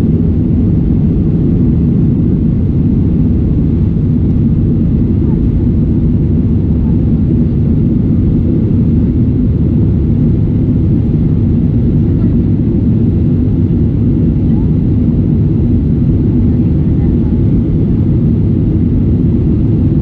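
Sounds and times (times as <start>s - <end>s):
jet cabin engine rumble: 0.0s - 20.0s.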